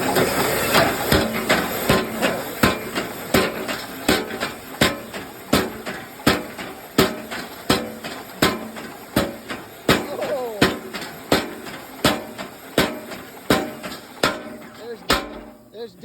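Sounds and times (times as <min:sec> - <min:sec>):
power hammer striking anvil: 0:00.0 - 0:15.9
drive motor humming: 0:00.0 - 0:16.0.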